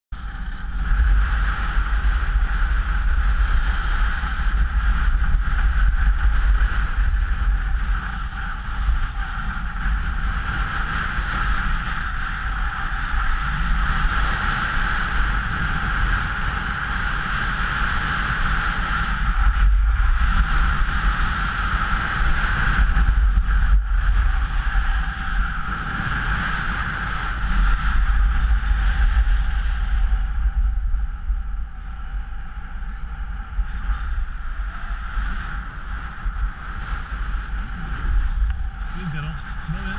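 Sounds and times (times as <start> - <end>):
wind buffeting microphone: 0.1 - 39.9.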